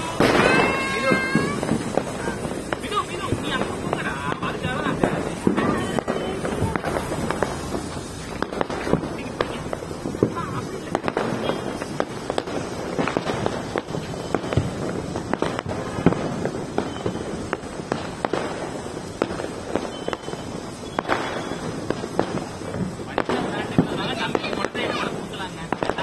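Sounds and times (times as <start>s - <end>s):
pyro torches fizzing hiss: 0.0s - 26.0s
sharp crackles and pops: 0.0s - 26.0s.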